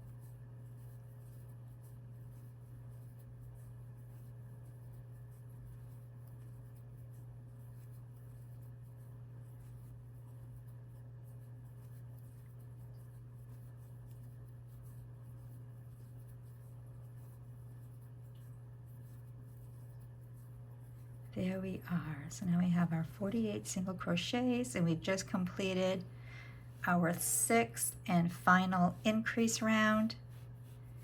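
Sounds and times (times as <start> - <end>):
crochet hook scratching yarn: 0.0 - 26.1, 26.8 - 31.0
low steady hum: 0.0 - 31.0.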